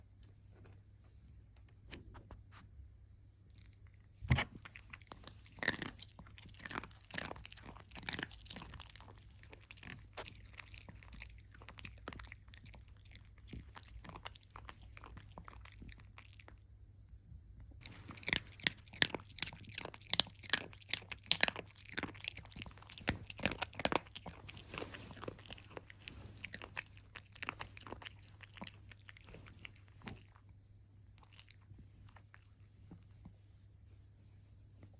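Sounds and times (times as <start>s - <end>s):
puppy crunching and chewing: 3.5s - 16.6s, 17.8s - 33.4s.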